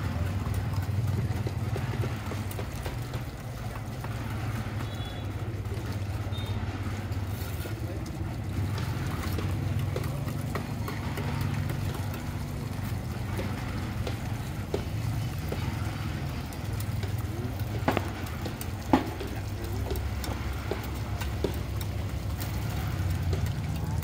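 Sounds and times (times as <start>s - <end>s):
hose water spraying: 0.0s - 24.0s
low mechanical hum: 0.0s - 24.0s.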